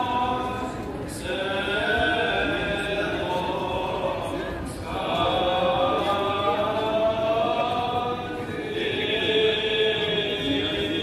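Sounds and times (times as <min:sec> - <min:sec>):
priest chanting: 0:00.0 - 0:11.0.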